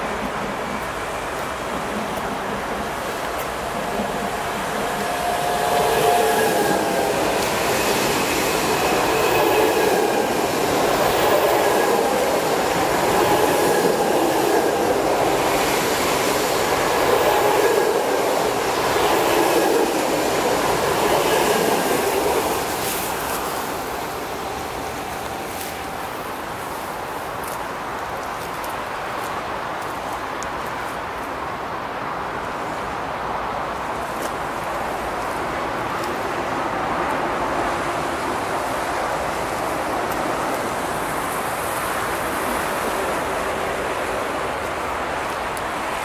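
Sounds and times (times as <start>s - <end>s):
electric train passing at speed: 0.0s - 30.4s, 31.4s - 46.0s.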